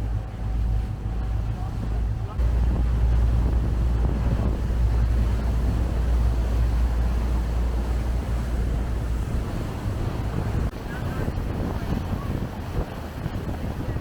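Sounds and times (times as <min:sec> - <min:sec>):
boat engine: 0:00.0 - 0:14.0
rushing water: 0:00.0 - 0:14.0
wind buffeting microphone: 0:00.0 - 0:14.0.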